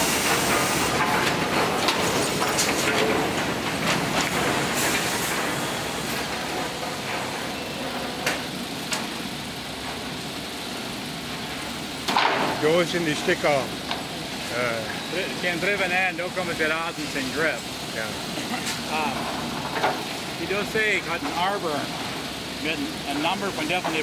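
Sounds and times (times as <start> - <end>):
mill machinery running: 0.0 - 24.0.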